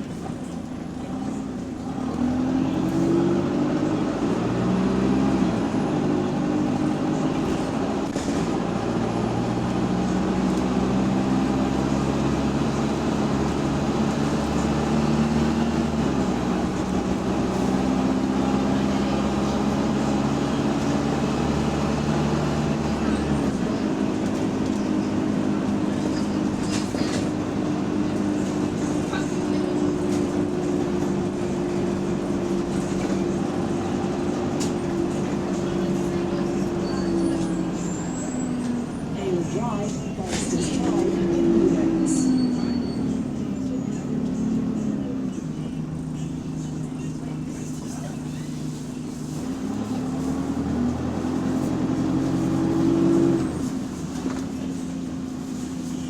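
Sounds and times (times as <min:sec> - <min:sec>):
bus diesel engine under load: 0:00.0 - 0:56.0.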